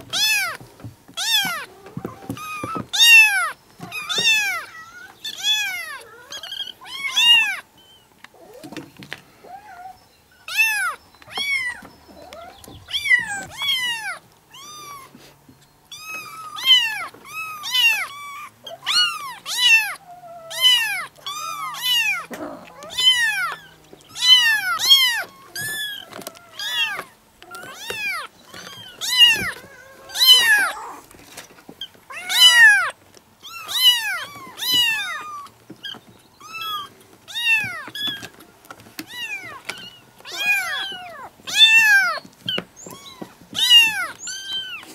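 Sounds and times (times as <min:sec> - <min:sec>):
kittens meowing: 0:00.0 - 0:08.8, 0:09.4 - 0:44.9.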